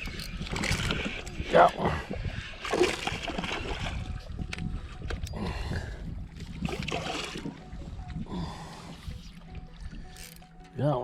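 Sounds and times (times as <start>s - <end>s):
wind rumble on microphone: 0.0s - 10.2s
water sloshing around a kayak: 0.0s - 10.9s.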